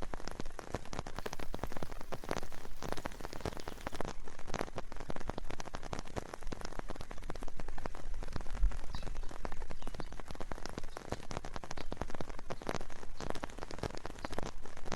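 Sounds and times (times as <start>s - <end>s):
steady rain: 0.0s - 14.9s
raindrops striking close by: 1.0s - 14.9s.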